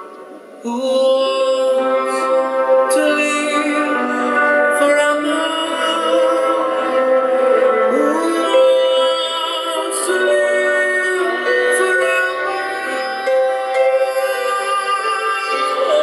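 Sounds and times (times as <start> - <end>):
live rock and classical music: 0.0 - 16.0.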